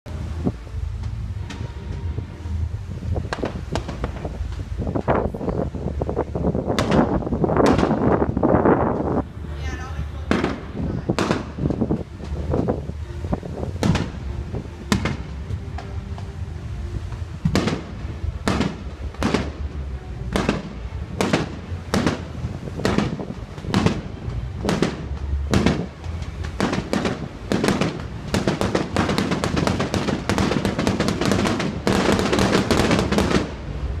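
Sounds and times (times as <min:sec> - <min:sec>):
fireworks bursting: 0:00.1 - 0:34.0.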